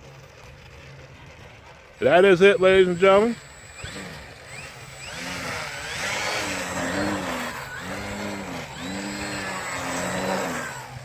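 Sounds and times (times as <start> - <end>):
model plane electric motor whining: 0.0 - 11.0
propeller rush: 0.0 - 11.0.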